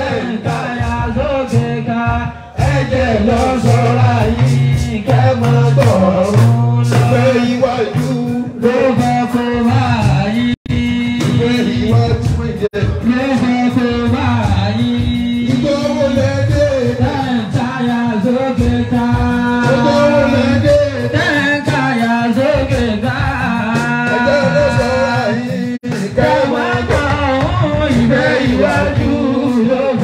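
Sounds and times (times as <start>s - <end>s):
instrumental backing music: 0.0s - 30.0s
man singing through a pa: 0.0s - 30.0s.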